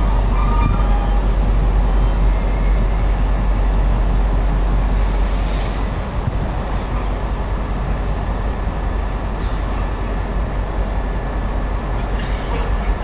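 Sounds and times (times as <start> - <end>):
stationary electric train rumbling: 0.0 - 13.0.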